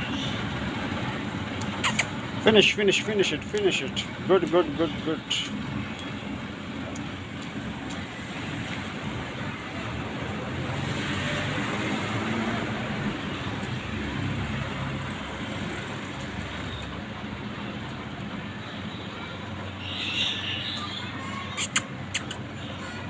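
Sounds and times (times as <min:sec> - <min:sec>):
passing vehicles hum: 0:00.0 - 0:23.0.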